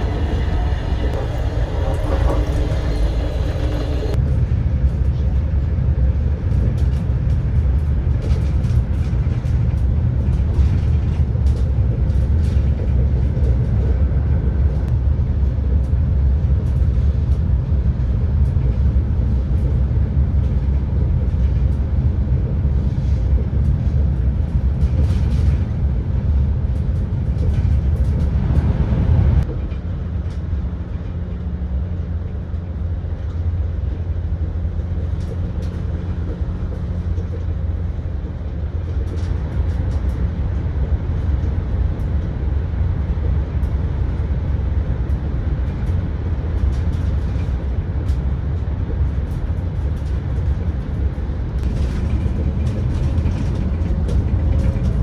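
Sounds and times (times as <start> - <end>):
train interior rumble: 0.0 - 55.0.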